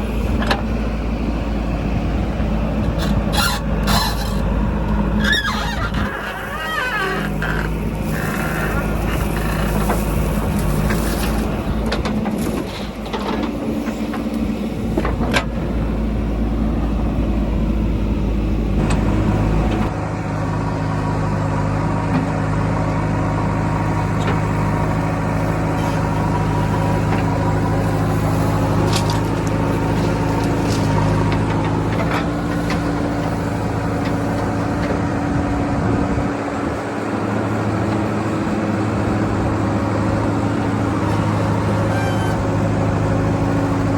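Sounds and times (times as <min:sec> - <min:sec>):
diesel backhoe engine running: 0:00.0 - 0:43.9.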